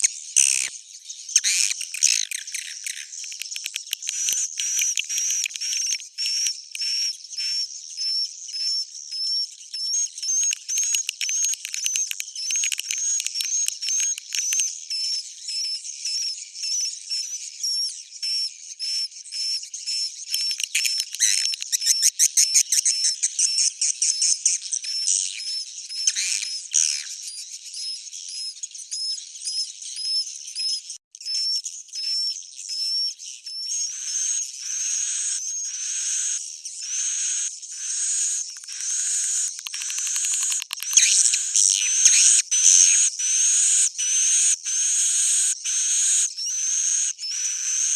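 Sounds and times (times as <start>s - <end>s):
high-pitched bird chirps: 0.0s - 47.9s.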